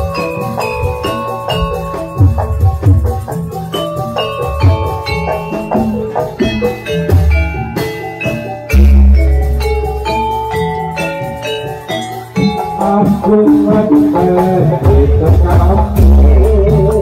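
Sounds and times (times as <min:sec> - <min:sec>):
metal-keyed percussion chiming: 0:00.0 - 0:17.0.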